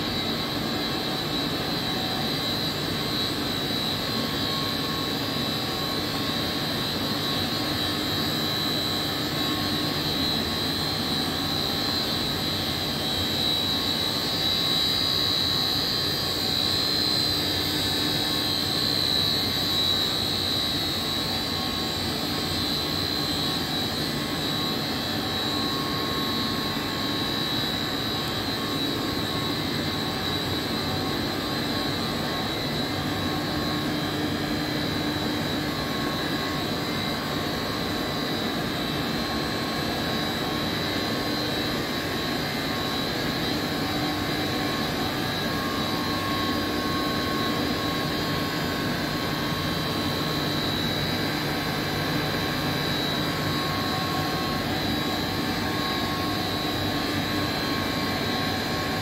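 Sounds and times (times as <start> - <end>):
chiller machinery drone: 0.0 - 59.0.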